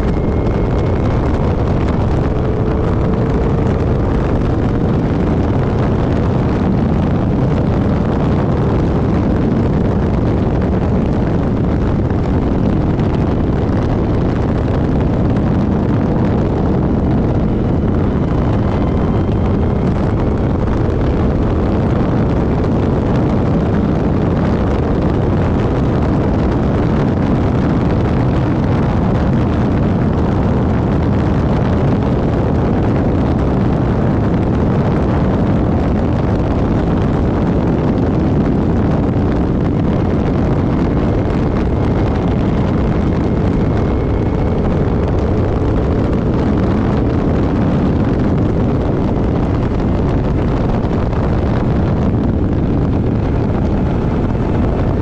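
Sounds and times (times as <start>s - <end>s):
race car engine running: 0.0s - 55.0s
wind buffeting microphone: 0.0s - 55.0s.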